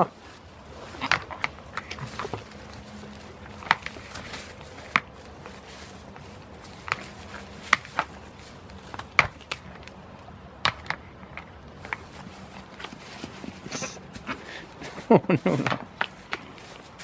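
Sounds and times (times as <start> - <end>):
goat hooves clicking: 0.2 - 17.0.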